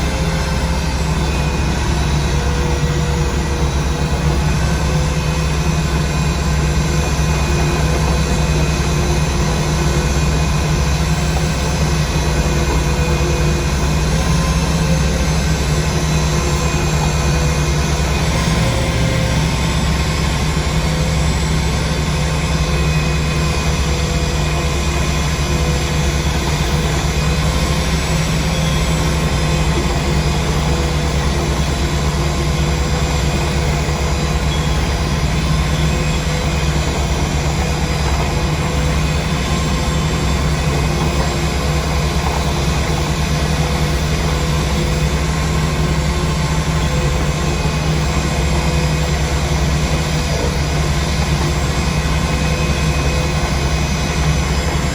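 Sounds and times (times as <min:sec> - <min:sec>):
heavy engine low drone: 0:00.0 - 0:54.9.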